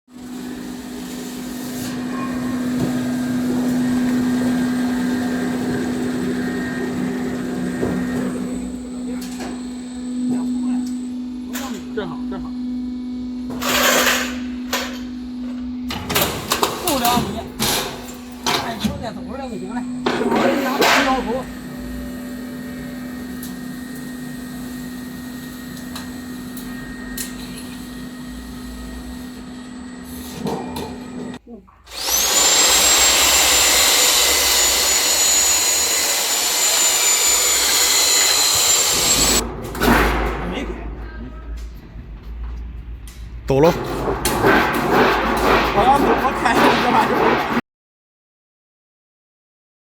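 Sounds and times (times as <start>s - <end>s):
roll forming machine motor hum: 0.2s - 31.4s, 32.0s - 47.5s.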